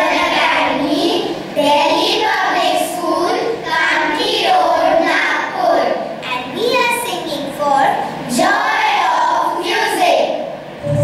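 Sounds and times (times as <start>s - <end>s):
children singing together: 0.0s - 6.2s, 8.1s - 11.0s.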